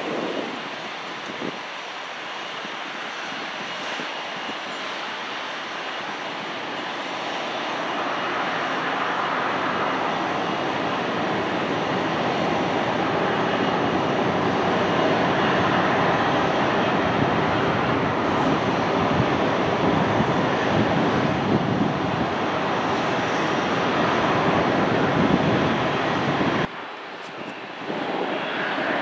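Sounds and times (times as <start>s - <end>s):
jet engines taxiing: 0.0s - 29.0s.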